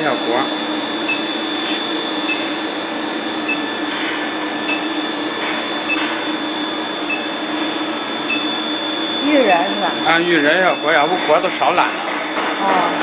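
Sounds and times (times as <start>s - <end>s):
furnace hum and hiss: 0.0s - 13.0s
high whining tones: 0.0s - 13.0s.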